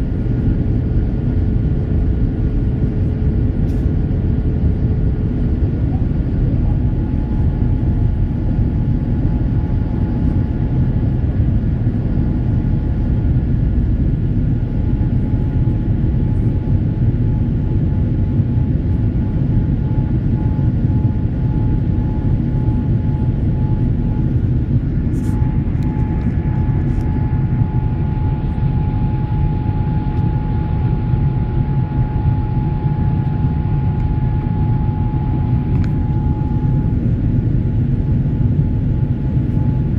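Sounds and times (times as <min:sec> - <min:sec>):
faint steady whine: 0:00.0 - 0:39.9
jet engines rumbling: 0:00.0 - 0:39.9.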